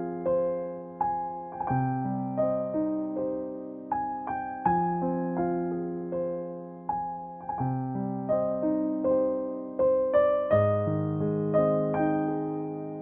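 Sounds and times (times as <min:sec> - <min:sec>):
soft piano tune: 0:00.0 - 0:13.0.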